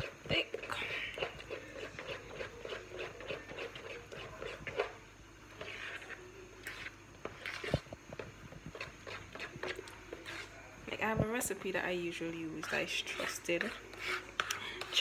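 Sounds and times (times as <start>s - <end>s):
utensil scraping batter: 0.0s - 11.5s, 12.4s - 15.0s.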